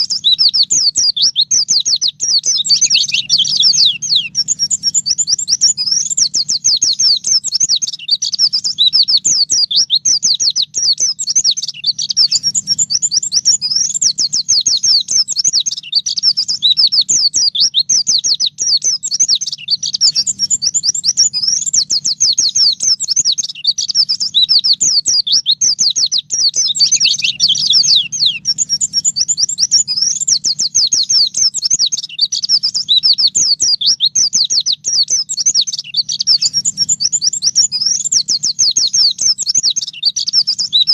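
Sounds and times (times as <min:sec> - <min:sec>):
bird singing rapid chirps and trills: 0:00.0 - 0:40.9.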